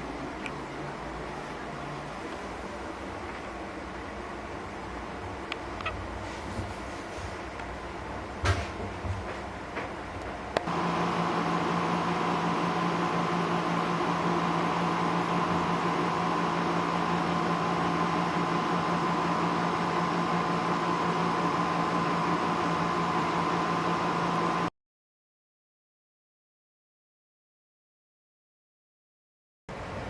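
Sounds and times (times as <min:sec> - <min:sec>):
portable air conditioner running: 0:00.0 - 0:24.7, 0:29.7 - 0:30.0.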